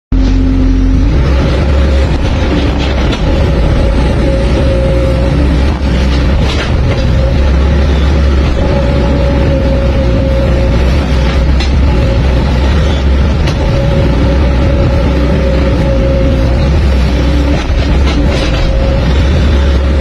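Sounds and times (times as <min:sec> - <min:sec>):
excavator diesel drone: 0:00.1 - 0:20.0
steady hydraulic whine: 0:00.2 - 0:20.0.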